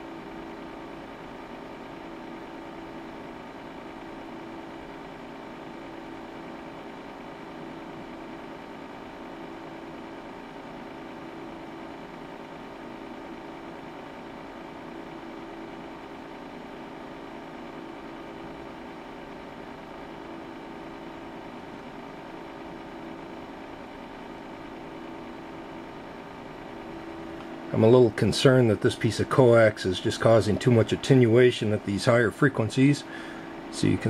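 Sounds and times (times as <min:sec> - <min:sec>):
cooling fans humming: 0:00.0 - 0:34.0.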